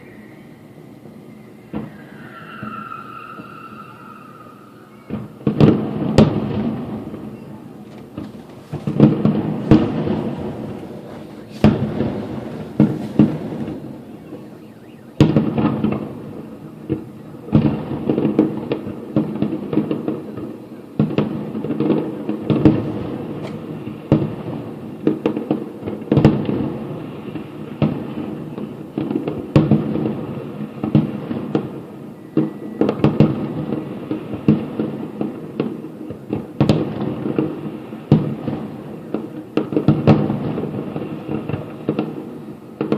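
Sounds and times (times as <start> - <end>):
distant fireworks bursting: 0.0 - 42.9.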